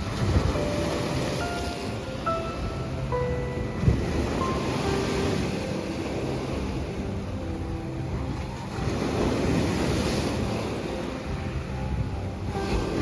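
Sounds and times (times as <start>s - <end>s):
sea surf washing onto shore: 0.0s - 13.0s
soft background music: 0.0s - 13.0s.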